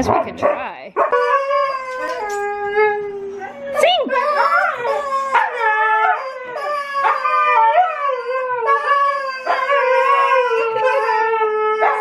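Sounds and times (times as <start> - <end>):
dogs howling together: 1.0 - 12.0.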